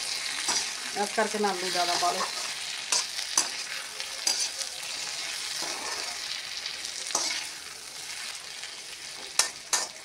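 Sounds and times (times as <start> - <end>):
spoon stirring and scraping pan: 0.0 - 10.0
vegetables sizzling in oil: 0.0 - 10.0.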